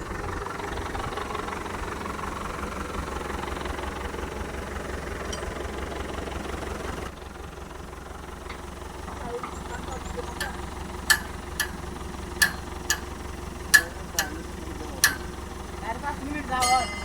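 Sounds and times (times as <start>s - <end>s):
heavy machinery engine rumbling: 0.0s - 17.0s.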